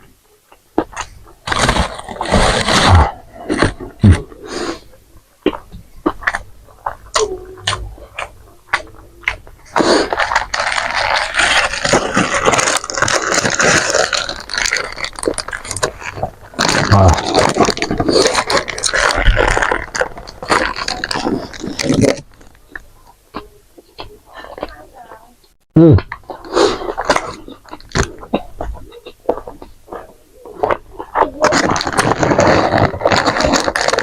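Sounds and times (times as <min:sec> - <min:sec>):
person chewing crispy food: 0:00.5 - 0:24.8, 0:26.1 - 0:34.0.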